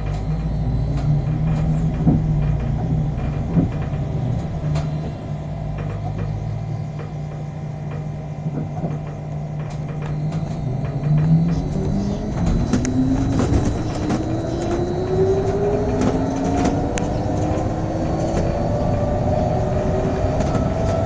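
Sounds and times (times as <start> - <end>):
short knocks: 0.0 - 18.6
bus drive hum: 0.0 - 21.0
rattles: 0.0 - 21.0
road noise: 0.0 - 21.0.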